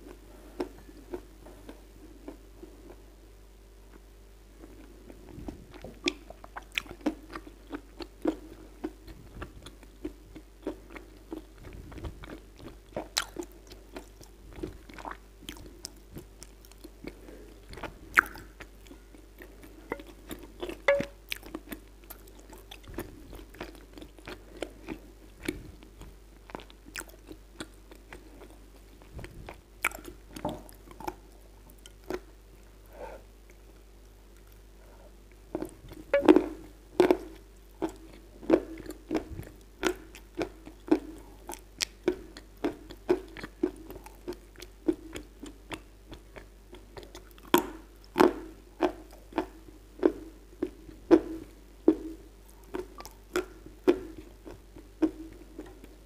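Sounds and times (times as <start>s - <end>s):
chewing crunchy clay: 4.6s - 32.3s, 35.5s - 56.0s.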